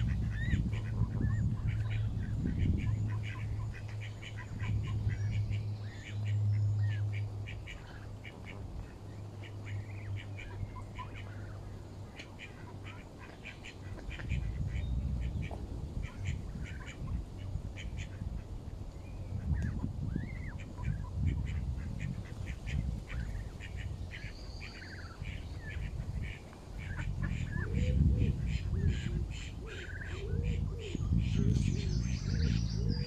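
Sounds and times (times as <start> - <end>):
goslings peeping: 0.0 - 33.0.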